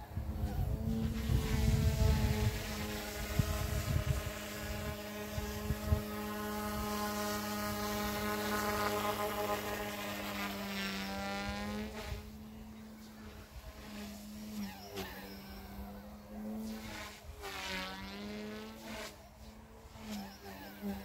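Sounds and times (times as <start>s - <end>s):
rc helicopter rotor whine: 0.0s - 21.0s.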